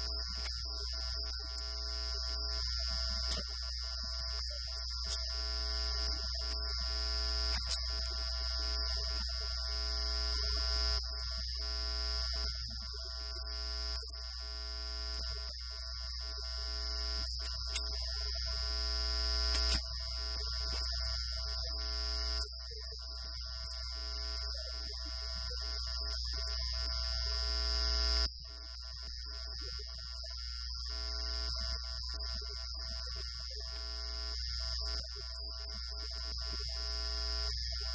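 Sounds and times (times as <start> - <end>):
electronic buzz: 0.0 - 37.9.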